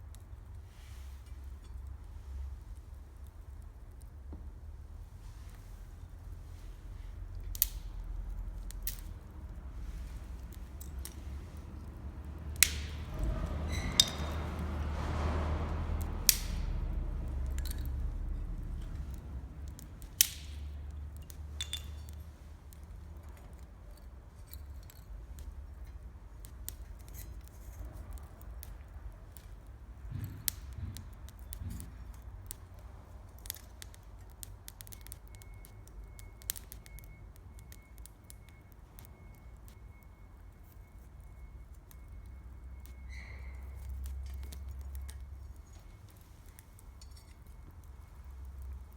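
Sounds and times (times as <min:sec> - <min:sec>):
burning firewood popping: 0:00.1 - 0:48.9
campfire crackling: 0:00.1 - 0:48.9.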